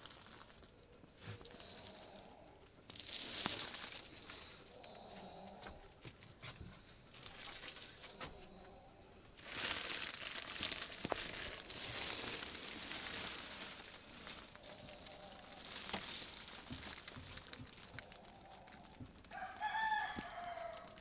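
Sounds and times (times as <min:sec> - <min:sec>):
plastic wrapping crinkling: 0:00.0 - 0:05.4, 0:07.0 - 0:21.0.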